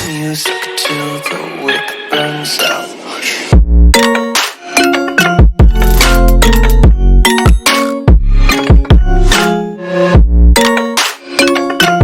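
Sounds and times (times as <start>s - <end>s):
instrumental electronic music: 0.0s - 12.0s.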